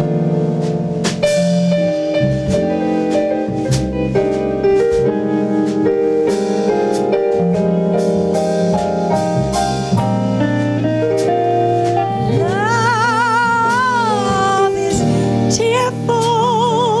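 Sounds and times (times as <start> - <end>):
drum kit keeping time: 0.0 - 17.0
keyboard chords: 0.0 - 17.0.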